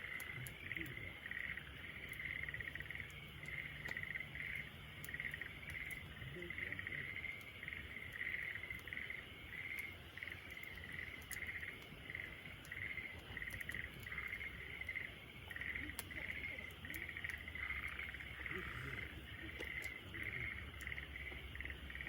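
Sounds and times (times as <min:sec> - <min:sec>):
campfire crackles: 0:00.0 - 0:22.0
crickets chirping: 0:00.0 - 0:22.0.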